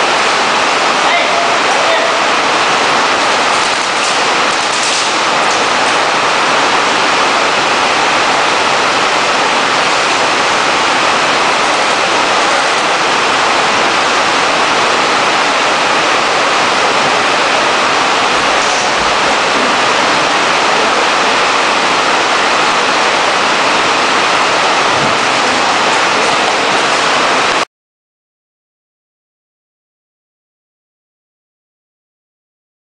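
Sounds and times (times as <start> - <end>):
heavy rain falling: 0.0 - 27.7.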